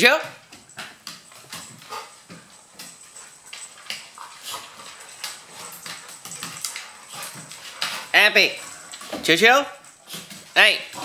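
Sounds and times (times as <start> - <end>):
dog claws clicking on wooden floor: 0.1 - 11.0.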